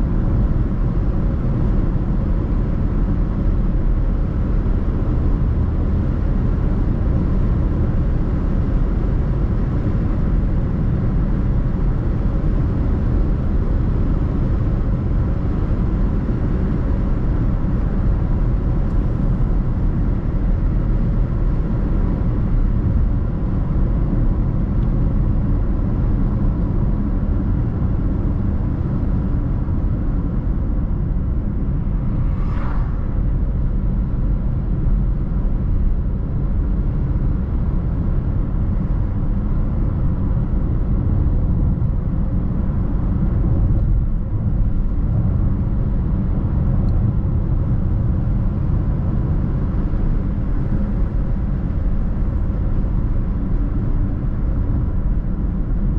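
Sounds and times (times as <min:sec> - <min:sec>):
car road and engine noise: 0:00.0 - 0:55.9.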